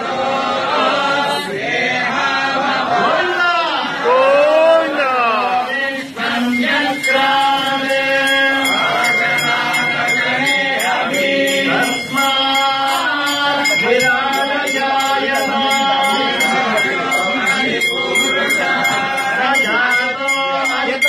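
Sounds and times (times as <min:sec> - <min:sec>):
devotional chanting with music: 0:00.0 - 0:21.0.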